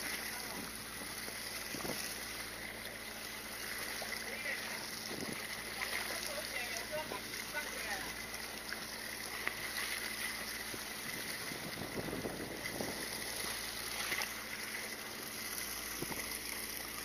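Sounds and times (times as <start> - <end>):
water: 0.0 - 17.0
wind: 0.0 - 17.0.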